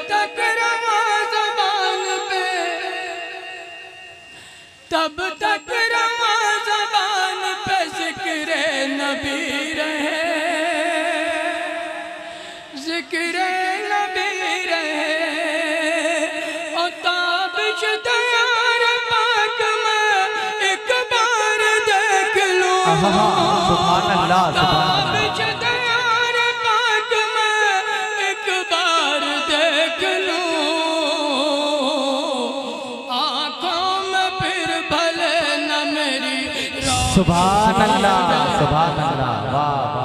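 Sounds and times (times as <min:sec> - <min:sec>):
man singing unaccompanied: 0:00.0 - 0:03.6, 0:04.9 - 0:12.0, 0:12.7 - 0:40.0.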